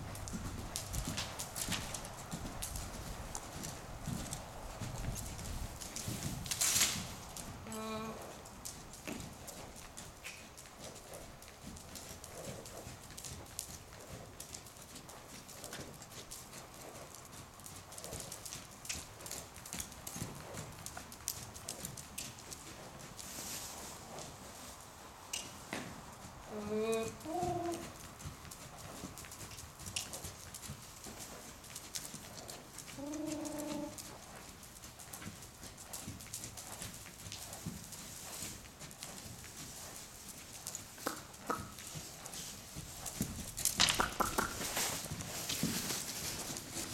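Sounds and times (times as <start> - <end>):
horse hoofbeats on dirt: 0.0 - 46.9.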